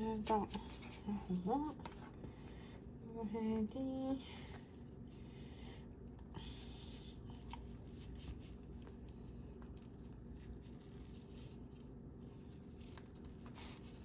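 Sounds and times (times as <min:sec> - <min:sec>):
low steady hum: 0:00.0 - 0:14.0
soft squishing of meat: 0:00.0 - 0:14.0.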